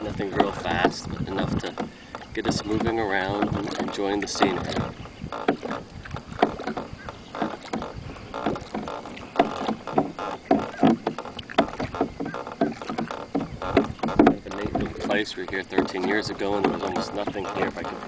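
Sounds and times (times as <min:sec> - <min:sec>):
oar knocking on boat: 0:00.0 - 0:18.0.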